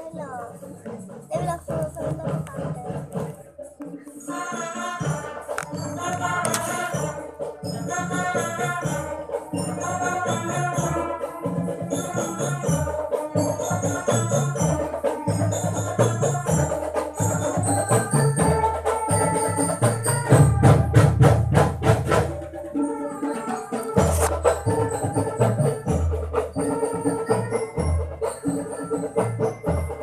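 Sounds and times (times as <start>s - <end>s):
marching drum band playing: 0.0s - 30.0s
quick drum strokes: 0.0s - 30.0s.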